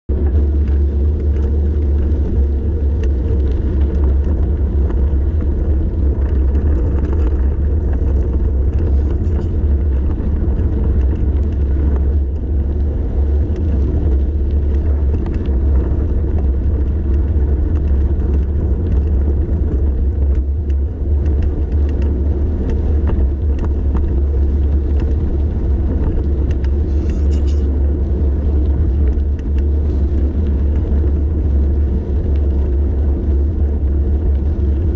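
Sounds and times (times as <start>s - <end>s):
wind buffeting microphone: 0.1s - 34.9s
light ticks and rattles: 0.2s - 34.9s.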